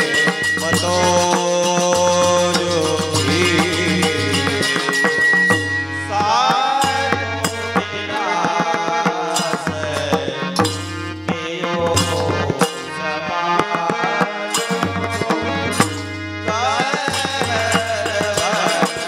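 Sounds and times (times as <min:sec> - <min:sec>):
tabla drumming: 0:00.0 - 0:19.0.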